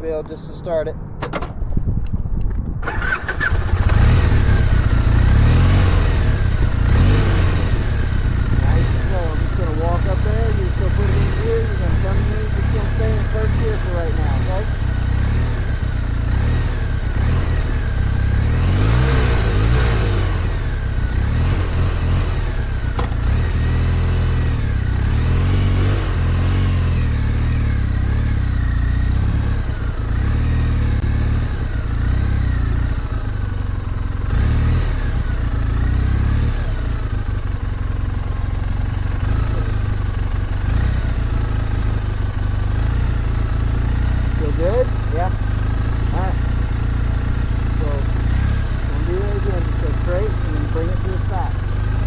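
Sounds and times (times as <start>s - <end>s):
motorcycle engine revving: 2.7s - 52.0s.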